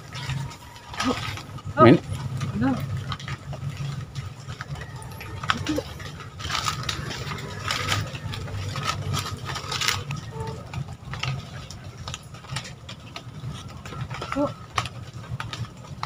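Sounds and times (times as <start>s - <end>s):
dry leaves and twigs rustling: 0.0s - 16.0s.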